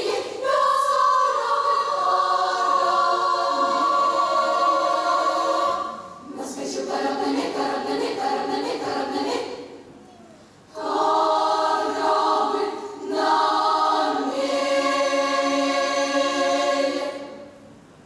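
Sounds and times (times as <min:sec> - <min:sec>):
choir singing held chords: 0:00.0 - 0:09.9, 0:10.7 - 0:17.9.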